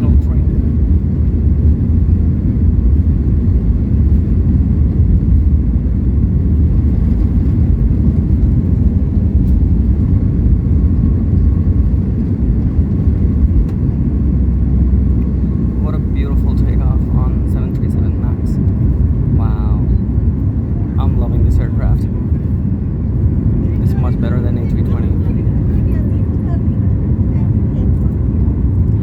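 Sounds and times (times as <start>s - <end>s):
airplane cabin engine rumble: 0.0s - 29.0s.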